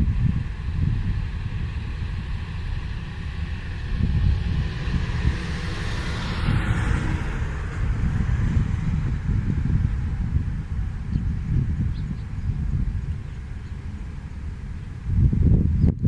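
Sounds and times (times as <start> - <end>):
steady hiss like traffic: 0.0 - 16.0
wind buffeting microphone: 0.0 - 16.0.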